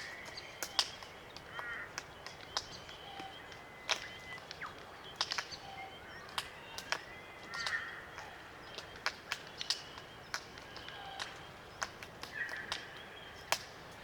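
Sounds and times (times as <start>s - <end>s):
creaky bird call: 0.0s - 13.5s.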